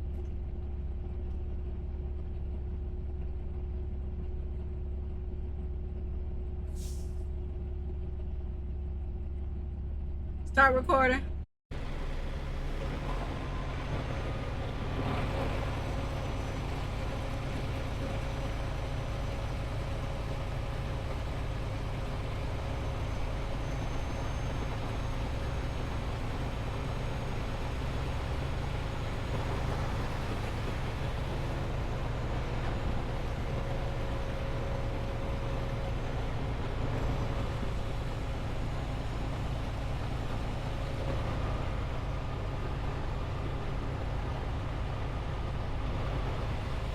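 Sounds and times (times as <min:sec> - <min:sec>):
truck engine drone: 0:00.0 - 0:46.9.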